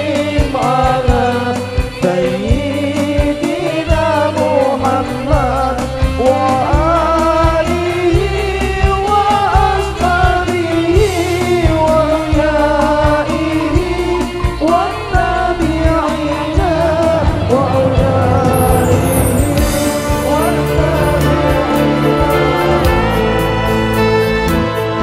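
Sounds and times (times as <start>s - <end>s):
person singing devotional song: 0.0s - 23.3s
band with steady drum beat: 0.0s - 25.0s.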